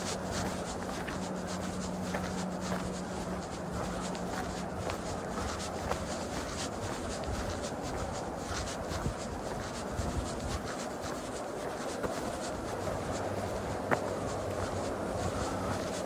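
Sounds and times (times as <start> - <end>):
footsteps: 0.0 - 16.0
small ticks and scrapes: 0.0 - 16.0
steady rushing noise: 0.0 - 16.0.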